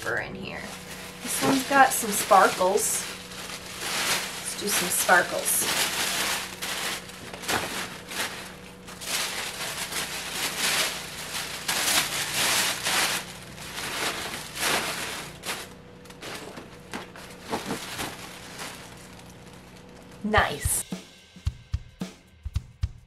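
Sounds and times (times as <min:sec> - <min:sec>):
tissue paper rustling and crinkling: 0:00.5 - 0:20.8.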